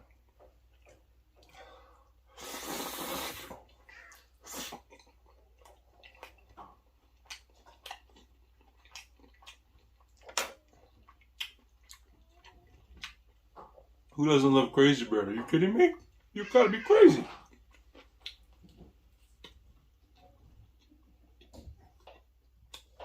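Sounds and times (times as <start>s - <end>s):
wet chewing: 0.0s - 14.2s, 17.2s - 23.0s.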